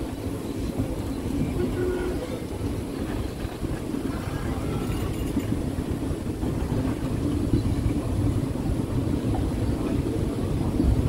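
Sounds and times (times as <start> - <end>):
moving train rumble: 0.0 - 11.0.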